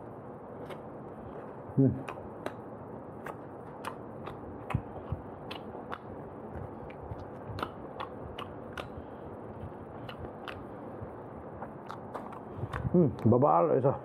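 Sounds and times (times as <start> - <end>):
man chewing food: 0.4 - 13.3
mouth smacks: 0.6 - 2.6, 3.2 - 13.3.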